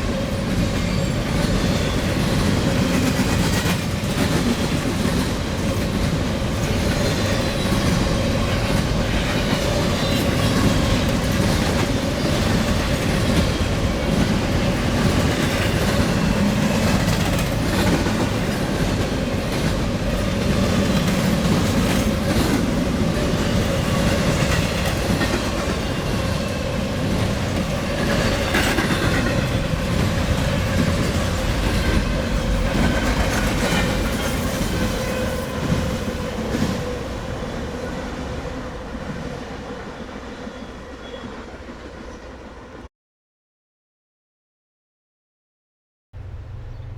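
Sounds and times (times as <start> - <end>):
train wheels rumbling on rail: 0.0 - 42.8.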